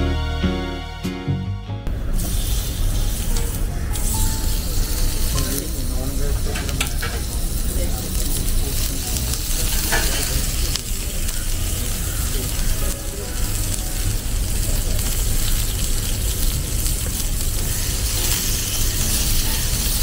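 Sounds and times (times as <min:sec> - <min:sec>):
food sizzling on griddle: 0:02.0 - 0:20.0.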